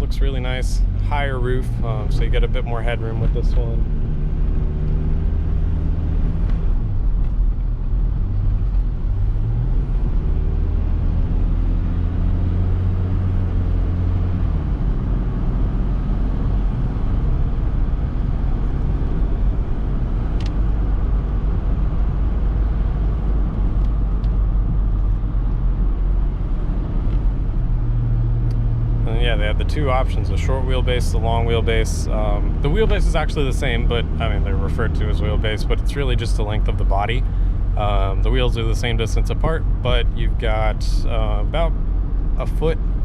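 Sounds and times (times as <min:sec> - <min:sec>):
diesel engine and road noise: 0:00.0 - 0:43.0.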